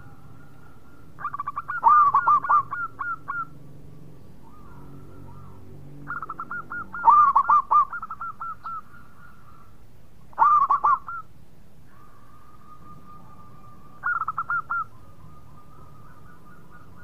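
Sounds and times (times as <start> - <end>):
dove cooing: 0.0 - 3.6, 4.4 - 11.3, 11.9 - 17.0.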